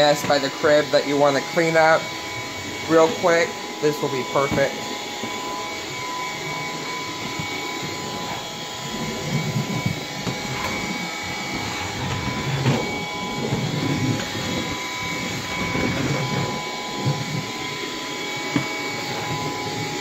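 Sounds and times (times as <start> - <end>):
vacuum motor whine: 0.0 - 20.0.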